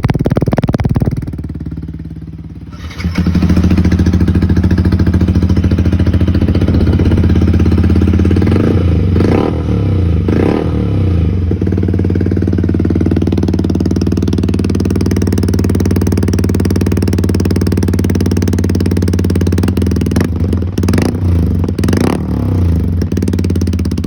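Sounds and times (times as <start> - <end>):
motorcycle engine idling: 0.0 - 24.0
engine revving: 2.6 - 23.7.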